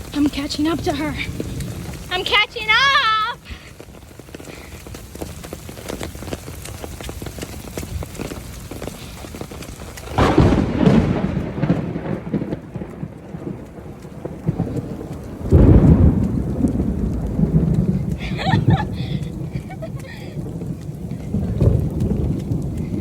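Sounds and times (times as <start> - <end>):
rain pattering: 0.0 - 23.0
thunder rumbling: 0.0 - 23.0.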